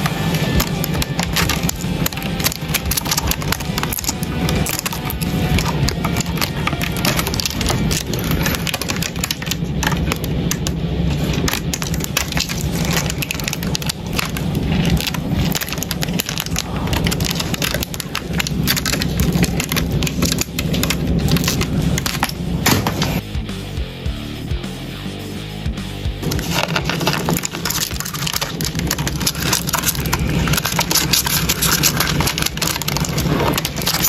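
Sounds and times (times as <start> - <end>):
beetles scratching and clicking on bark: 0.0 - 10.7, 11.4 - 22.4, 26.2 - 34.0
steady low hum: 0.0 - 34.0.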